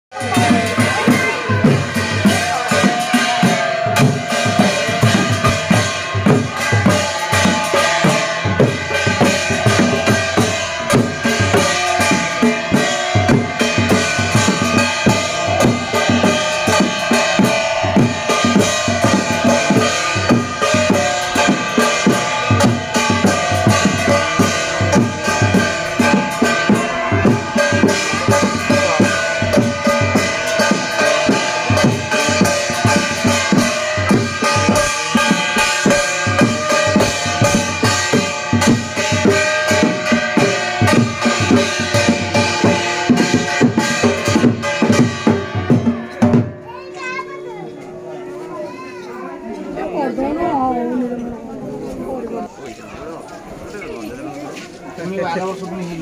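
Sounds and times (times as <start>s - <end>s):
fast barrel drum beating: 0.1s - 46.6s
steady held tones: 0.2s - 52.6s.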